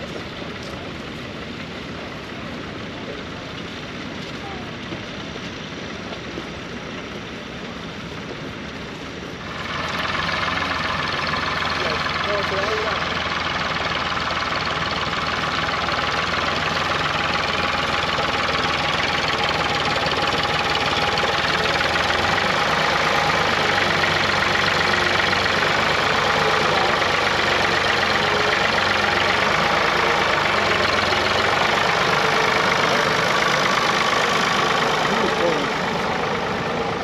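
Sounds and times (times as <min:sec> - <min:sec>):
tractor engine knocking: 0:00.0 - 0:37.0.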